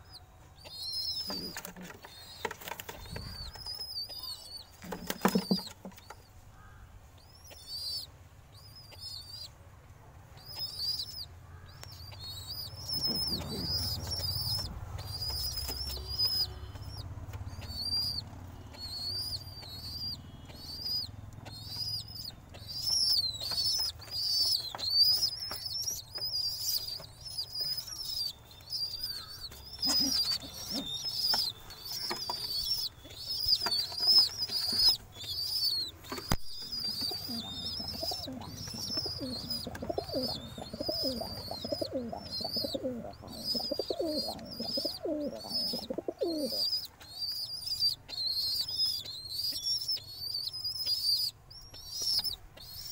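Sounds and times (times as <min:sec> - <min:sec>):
pigeon squeaky calls: 0:00.1 - 0:06.2, 0:07.2 - 0:09.5, 0:10.4 - 0:52.9.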